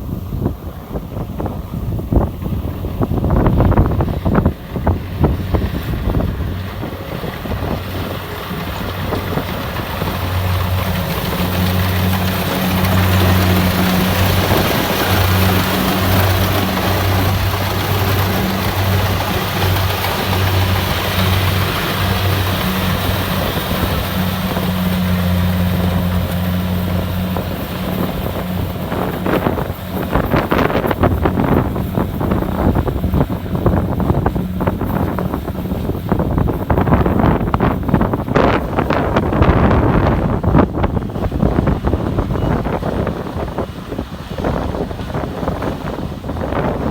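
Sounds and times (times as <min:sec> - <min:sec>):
combine harvester humming: 0:00.0 - 0:46.9
wind buffeting microphone: 0:00.0 - 0:46.9.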